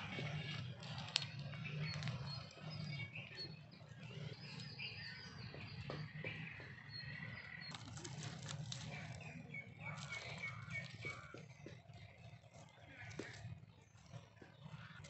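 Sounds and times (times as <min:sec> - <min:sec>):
twigs crackling and rustling: 0:00.0 - 0:04.8, 0:07.5 - 0:15.0
small birds chirping: 0:00.0 - 0:15.0.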